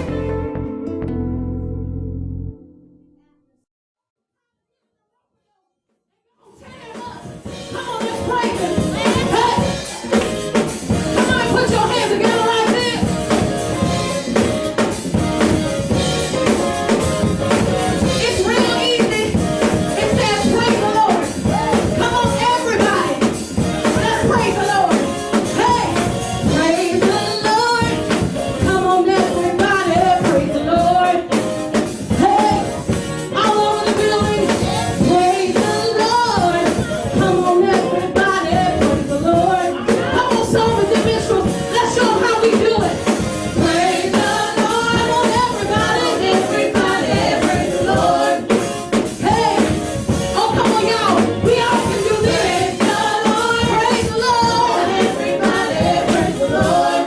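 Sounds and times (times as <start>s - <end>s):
gospel worship music: 0.0s - 1.8s, 6.5s - 57.0s.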